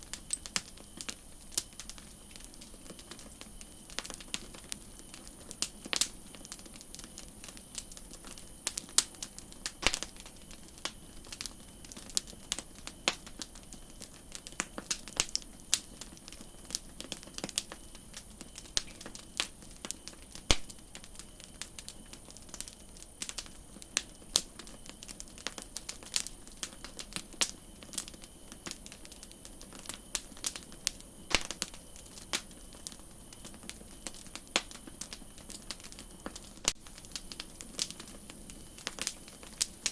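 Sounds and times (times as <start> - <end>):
campfire crackling: 0.0 - 39.9
low hiss: 0.0 - 39.9.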